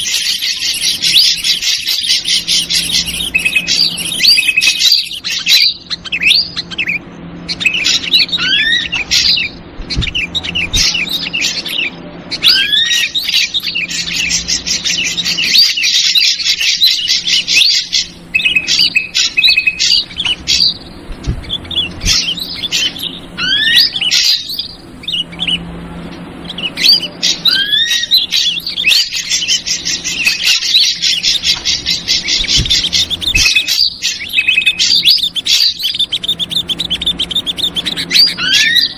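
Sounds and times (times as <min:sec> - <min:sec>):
bulbul chatter: 0:00.0 - 0:38.9
drongo calls: 0:00.0 - 0:38.9
faint steady hum: 0:00.0 - 0:38.9.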